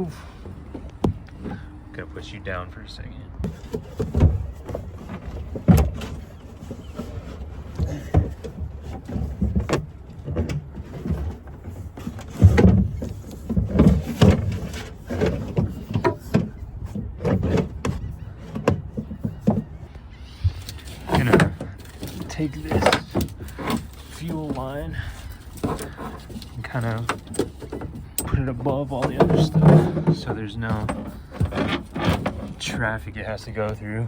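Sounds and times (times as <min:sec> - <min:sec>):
knocks and clunks: 0:00.0 - 0:02.2, 0:03.3 - 0:33.9.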